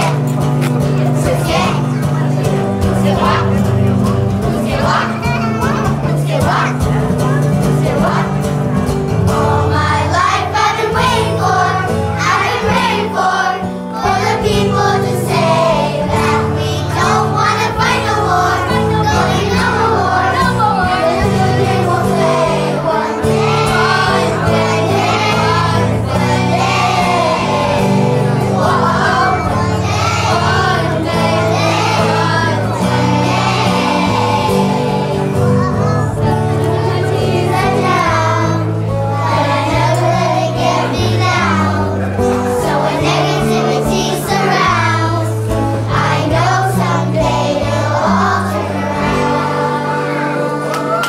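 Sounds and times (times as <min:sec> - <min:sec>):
children's choir singing: 0:00.0 - 0:51.0
instrumental accompaniment: 0:00.0 - 0:51.0.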